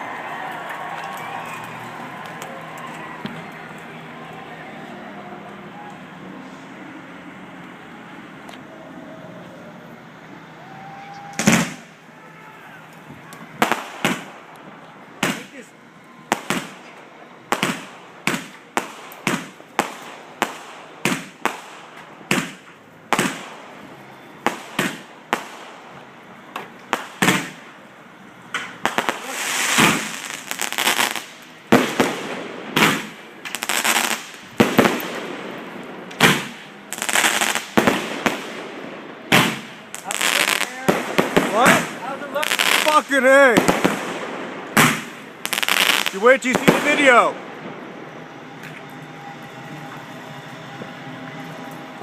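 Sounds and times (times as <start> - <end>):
fireworks bangs and crackling: 0.0 - 7.2, 7.9 - 52.0.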